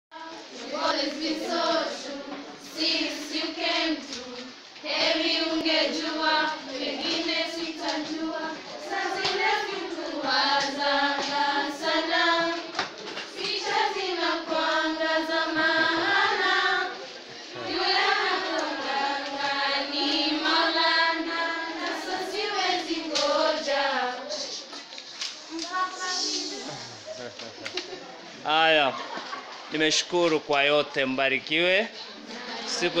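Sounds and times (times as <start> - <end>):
girls singing in chorus: 0.1 - 24.8, 25.4 - 27.1, 32.2 - 33.0.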